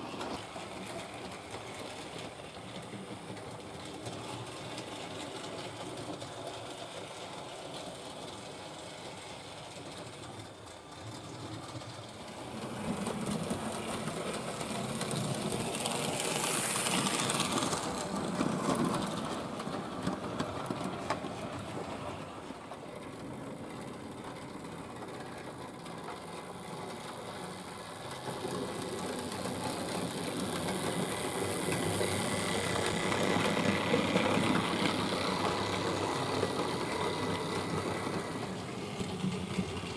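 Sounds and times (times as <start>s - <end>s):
wheels rattling over rails: 0.0s - 39.9s.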